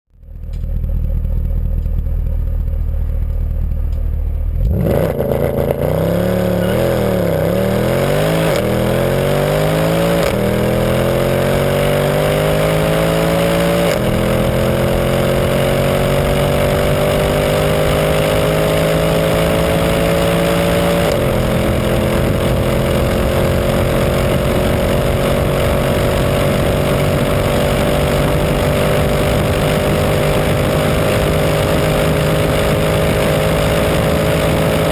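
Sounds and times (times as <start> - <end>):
car engine accelerating hard: 0.2 - 34.9.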